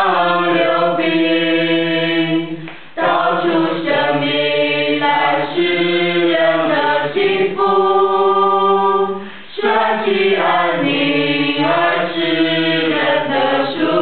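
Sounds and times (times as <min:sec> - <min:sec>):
choir singing slow song: 0:00.0 - 0:14.0.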